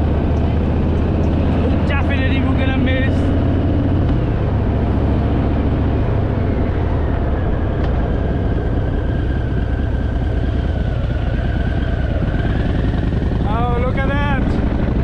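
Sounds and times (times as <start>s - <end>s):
high whine: 0.0s - 15.0s
motorcycle engine running: 0.0s - 15.0s.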